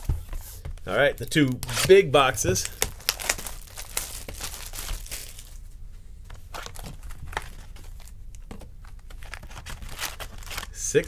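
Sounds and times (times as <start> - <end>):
plastic wrapper crinkling: 1.2 - 5.6, 6.5 - 11.0.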